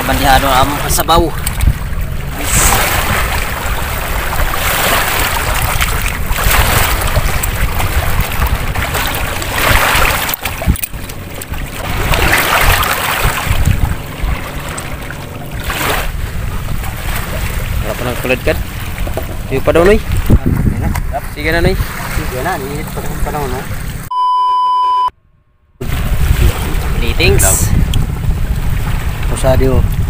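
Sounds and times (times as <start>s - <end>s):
sea waves washing over rocks: 0.0s - 24.1s, 25.8s - 30.0s
wind buffeting microphone: 0.0s - 24.1s, 25.8s - 30.0s.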